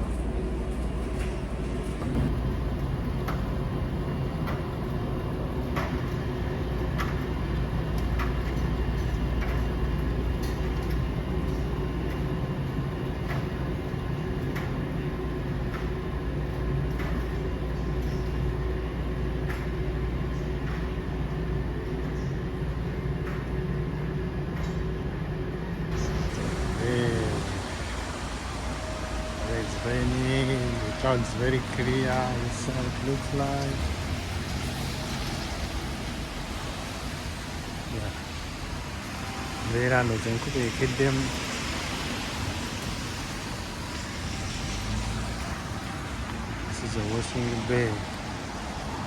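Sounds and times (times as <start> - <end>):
washing machines rumbling: 0.0 - 49.0.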